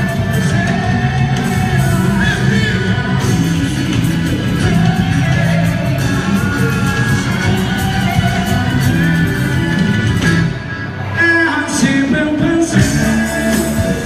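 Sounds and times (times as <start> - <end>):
festive folk music with singing: 0.0 - 14.0.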